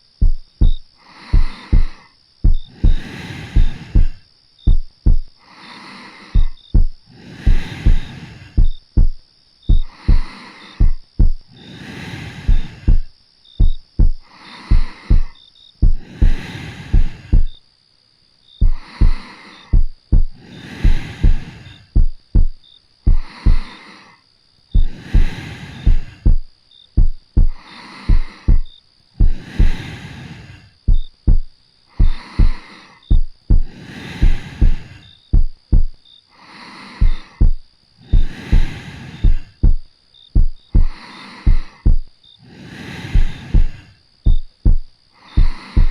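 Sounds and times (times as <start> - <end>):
heartbeat thumps: 0.0 - 5.4, 6.4 - 11.5, 12.4 - 17.6, 18.6 - 23.7, 24.7 - 29.9, 30.8 - 36.0, 37.0 - 42.1, 43.1 - 45.9
soft breathing: 0.0 - 17.6, 18.6 - 45.9.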